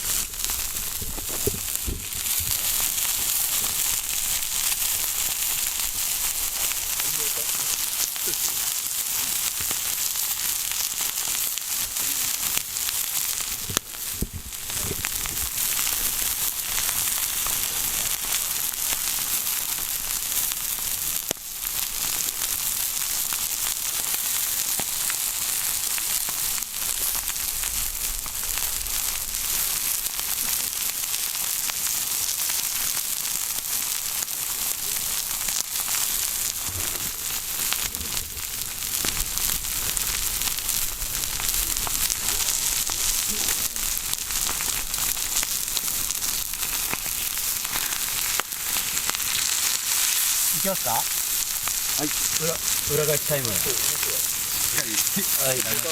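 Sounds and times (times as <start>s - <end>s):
steak sizzling on a griddle: 0.0s - 55.9s.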